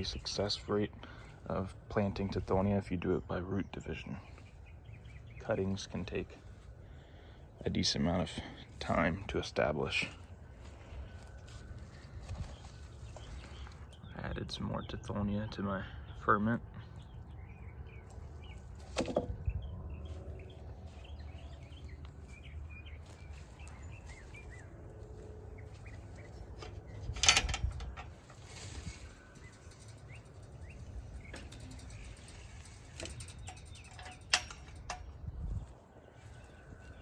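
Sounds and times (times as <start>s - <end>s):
small birds chirping: 0.0s - 37.0s
steady low rumble: 0.0s - 37.0s.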